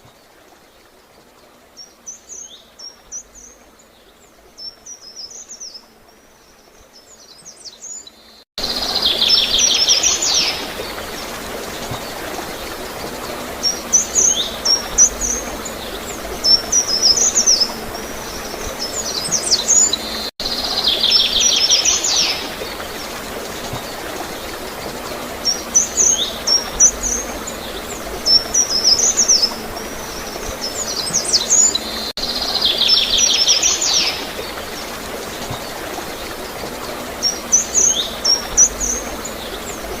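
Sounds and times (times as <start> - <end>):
gurgling flowing water: 0.0 - 40.0
small songbirds chirping: 0.0 - 40.0.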